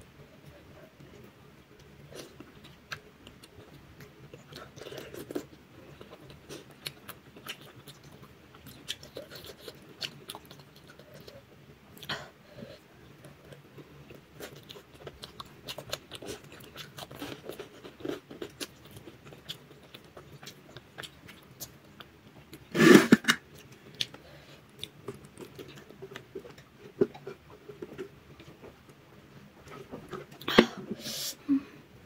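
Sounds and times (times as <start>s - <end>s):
chewing with wet clicks: 0.4s - 12.1s, 13.2s - 22.7s, 23.5s - 29.0s.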